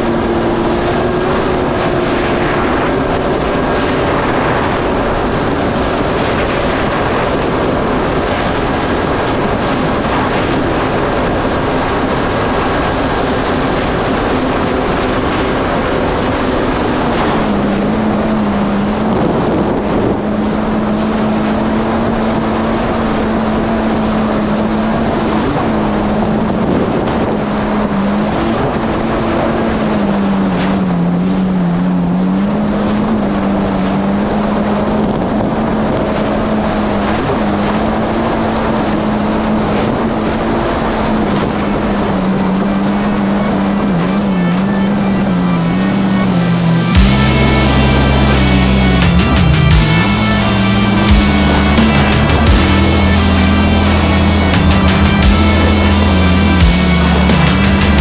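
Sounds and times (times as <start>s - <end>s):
jet ski engine running: 0.0s - 58.0s
wind and water rushing: 0.0s - 58.0s.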